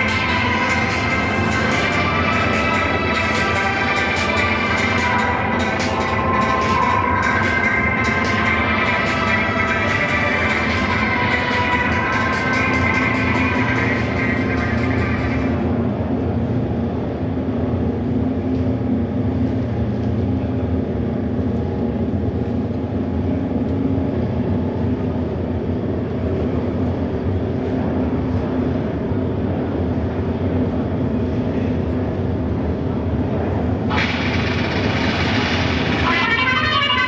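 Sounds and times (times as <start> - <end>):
motorcycle engines droning: 0.0 - 37.0.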